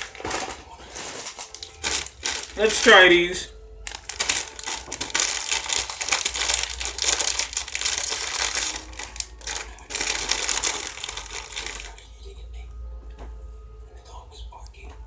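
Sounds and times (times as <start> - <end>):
snack packaging crinkling: 0.0 - 12.1.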